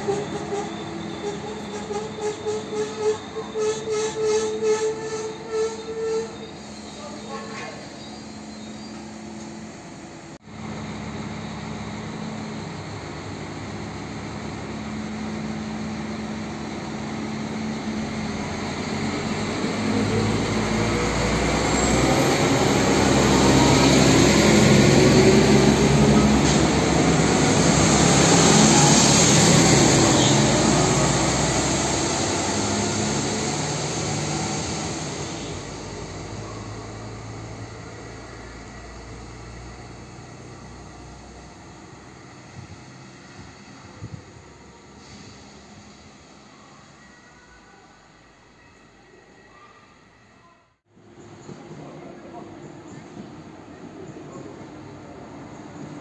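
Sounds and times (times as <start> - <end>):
diesel train engines revving: 0.0 - 49.3, 50.9 - 56.0.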